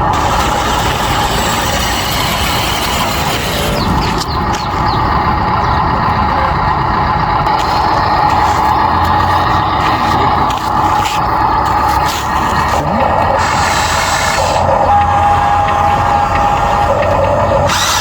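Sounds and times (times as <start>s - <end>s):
mechanical whine: 0.0s - 18.0s.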